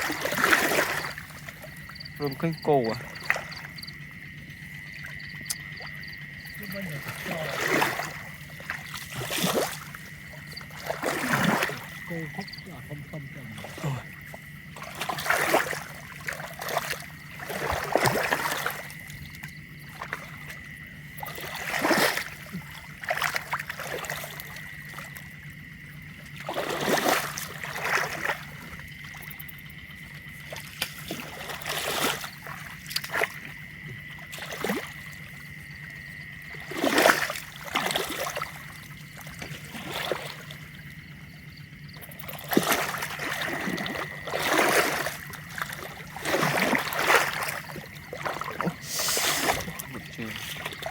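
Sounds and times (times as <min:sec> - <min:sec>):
water splashing: 0:00.0 - 0:50.9.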